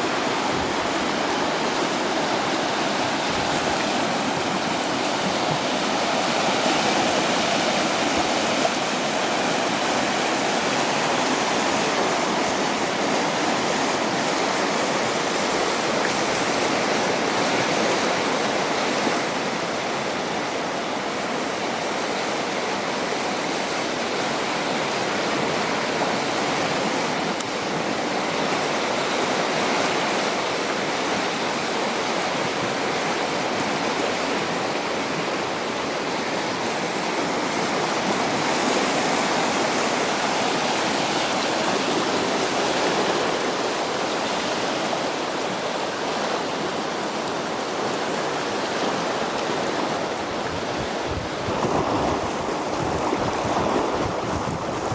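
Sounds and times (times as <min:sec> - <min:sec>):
floodwater rushing: 0:00.0 - 0:31.2, 0:33.6 - 0:54.9.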